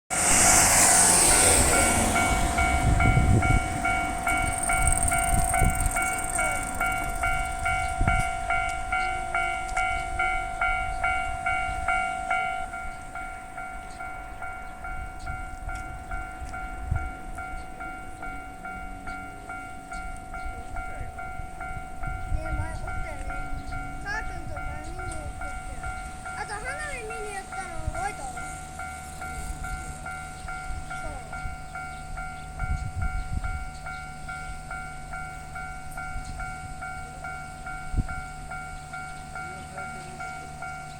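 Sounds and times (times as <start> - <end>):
train running noise: 0.1 - 40.9
level crossing alarm ringing: 0.2 - 40.9.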